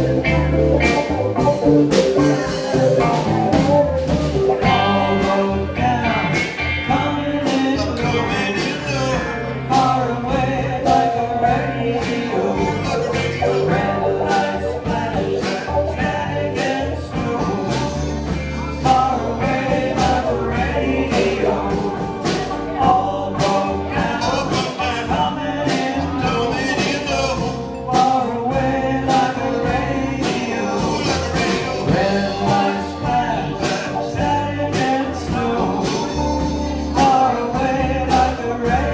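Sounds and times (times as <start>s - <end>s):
band playing: 0.0s - 38.9s
person singing: 0.0s - 38.9s
steady drum beat: 0.0s - 38.9s.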